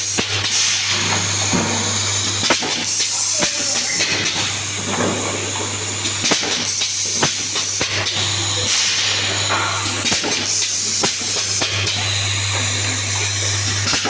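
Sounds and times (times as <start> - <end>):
machine humming and hissing: 0.0 - 14.0.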